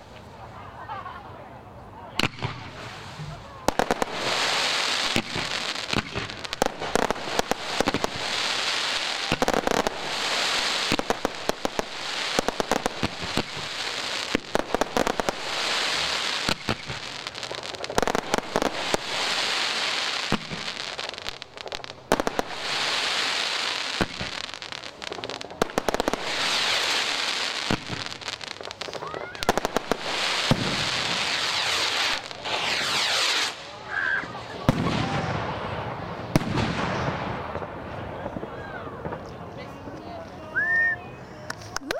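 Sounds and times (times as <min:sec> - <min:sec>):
crackling firework stars: 0:02.1 - 0:41.9
firework bangs: 0:02.2 - 0:39.6.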